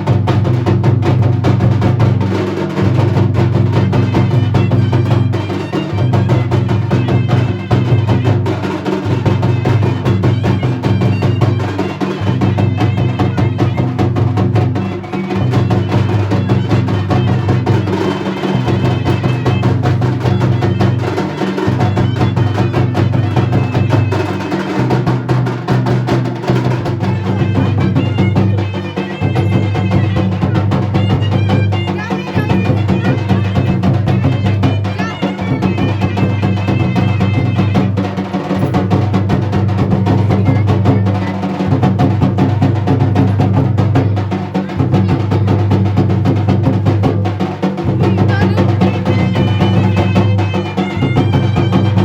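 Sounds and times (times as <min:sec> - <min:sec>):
folk drums playing fast rhythm: 0:00.0 - 0:52.0.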